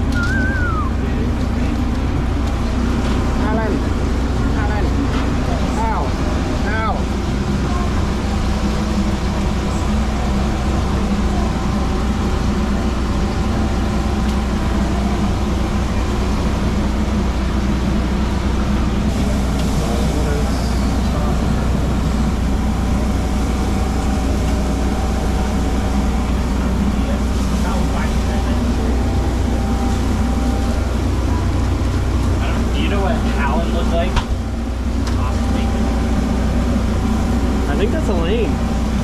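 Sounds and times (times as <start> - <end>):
engine and road rumble: 0.0 - 39.0
faint constant hum: 0.0 - 39.0.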